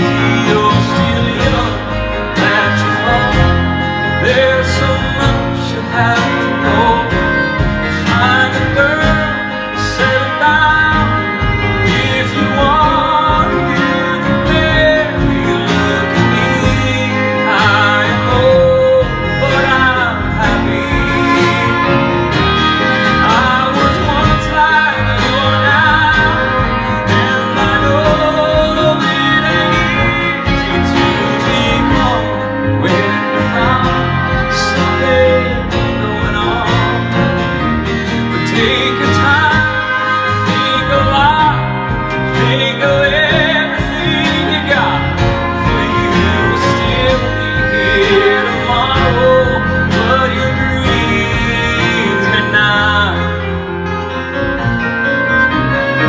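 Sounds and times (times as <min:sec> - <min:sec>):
man singing a ballad: 0:00.0 - 0:54.6
acoustic band playing: 0:00.0 - 0:56.0.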